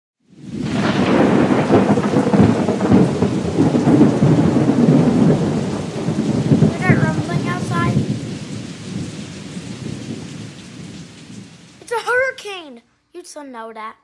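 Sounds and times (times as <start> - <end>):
heavy rain: 0.2 - 13.9
low rolling thunder: 0.3 - 12.4.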